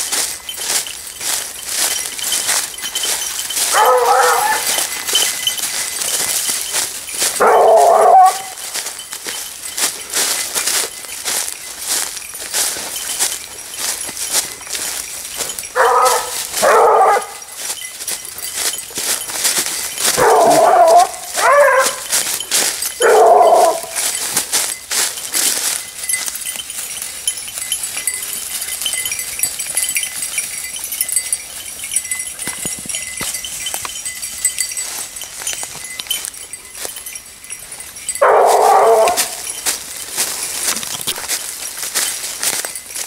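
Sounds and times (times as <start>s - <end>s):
footsteps in dry leaves: 0.0s - 43.0s
hounds baying: 0.1s - 11.5s, 14.1s - 33.8s, 35.0s - 41.3s.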